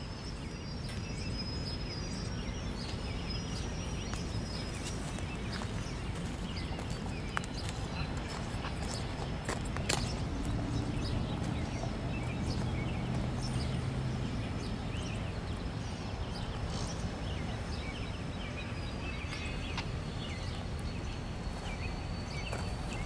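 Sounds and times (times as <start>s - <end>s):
diesel locomotive engine rumble: 0.0s - 23.0s.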